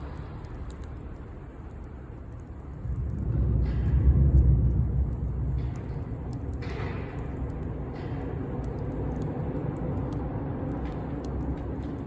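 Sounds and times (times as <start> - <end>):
bonfire crackling and popping: 0.0 - 12.0
steady low rumble: 0.0 - 12.0.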